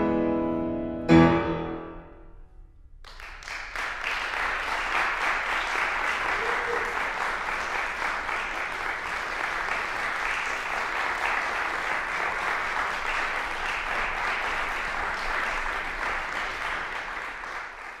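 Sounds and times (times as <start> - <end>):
audience applauding: 3.0 - 18.0.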